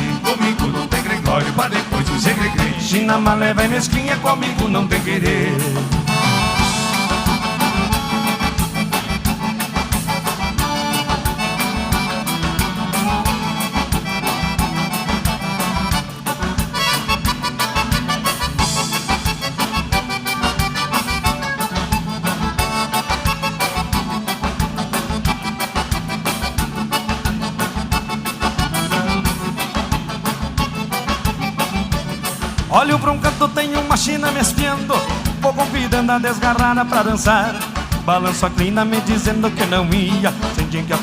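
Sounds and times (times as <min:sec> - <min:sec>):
accordion: 0:00.0 - 0:41.0
bass: 0:00.0 - 0:41.0.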